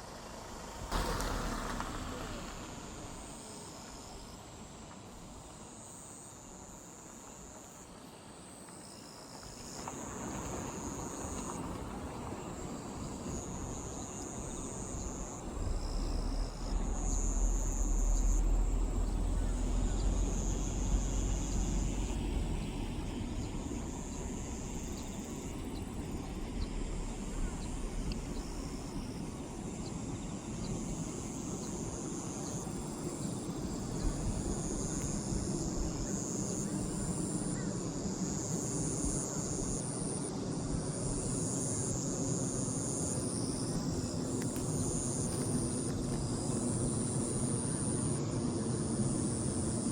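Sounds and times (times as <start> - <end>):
distant airplane rumble: 0.0 - 5.6, 9.8 - 49.9.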